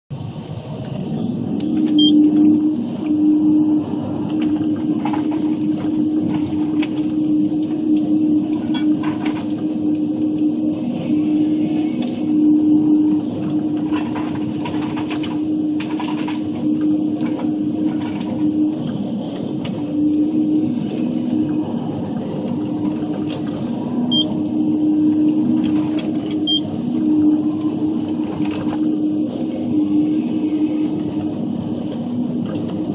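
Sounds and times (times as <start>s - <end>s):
engine and hydraulics droning: 0.1s - 32.9s.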